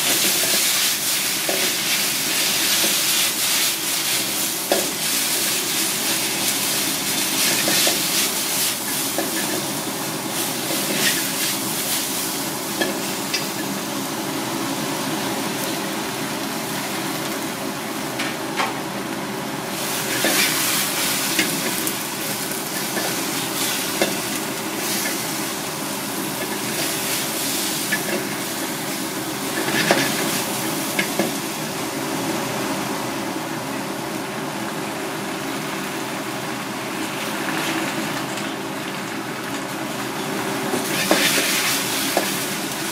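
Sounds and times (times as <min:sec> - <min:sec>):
greens sizzling in a wok: 0:00.0 - 0:18.4, 0:19.2 - 0:42.9.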